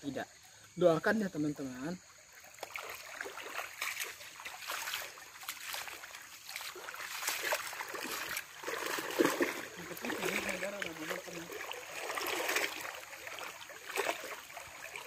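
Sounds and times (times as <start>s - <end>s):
water sloshing and splashing: 2.1s - 15.0s.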